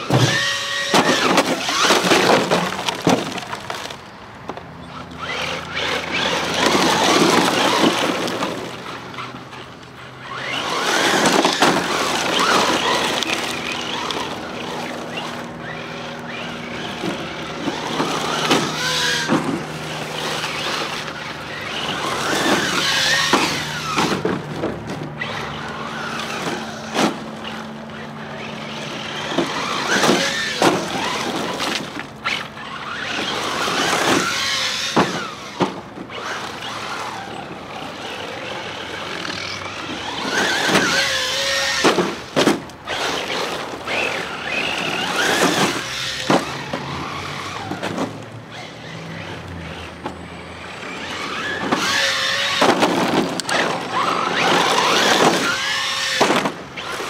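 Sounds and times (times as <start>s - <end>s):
rc car motor whine: 0.0s - 57.0s
tyres scrabbling in dirt: 0.0s - 57.0s.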